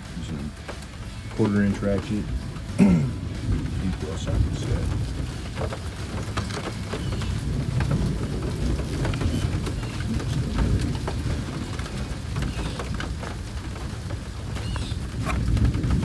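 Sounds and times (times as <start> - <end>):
wind buffeting microphone: 1.5 - 16.0.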